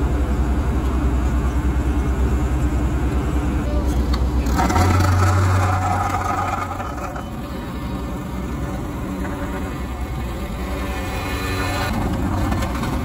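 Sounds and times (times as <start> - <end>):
diesel engine running: 0.0 - 13.0
high engine whine: 0.0 - 13.0.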